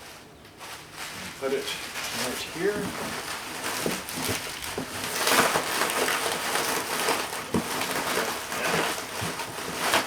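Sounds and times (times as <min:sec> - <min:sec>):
bubble wrap rustling and crackling: 0:00.0 - 0:10.0.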